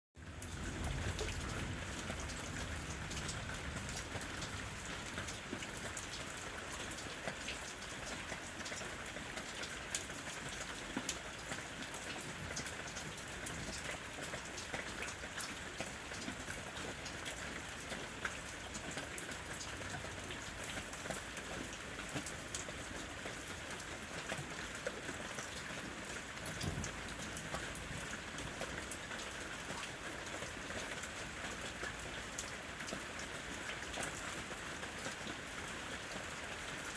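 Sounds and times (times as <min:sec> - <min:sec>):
rain on a roof: 0:00.2 - 0:36.9.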